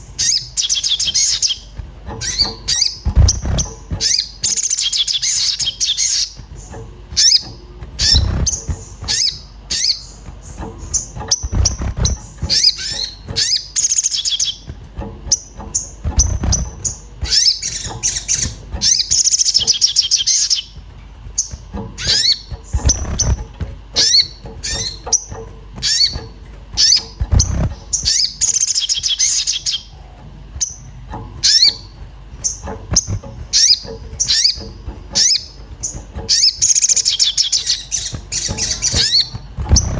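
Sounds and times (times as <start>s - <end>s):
songbird chirping rapid calls: 0.0s - 39.9s
dull low thuds: 1.6s - 4.6s, 5.4s - 13.9s, 14.5s - 28.4s, 30.2s - 39.9s.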